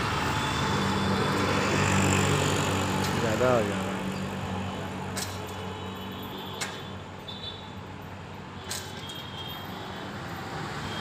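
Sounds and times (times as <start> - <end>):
distant traffic: 0.0 - 11.0.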